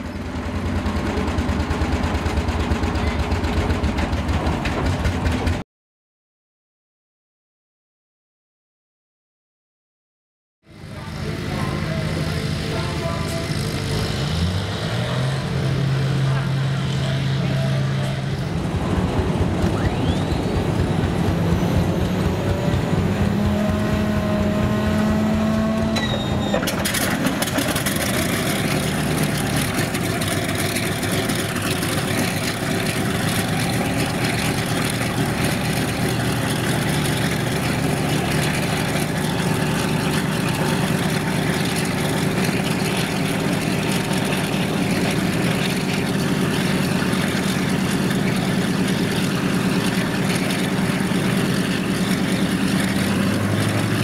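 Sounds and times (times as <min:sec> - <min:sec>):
motor vehicle engines running: 0:00.0 - 0:05.6, 0:10.7 - 0:54.0.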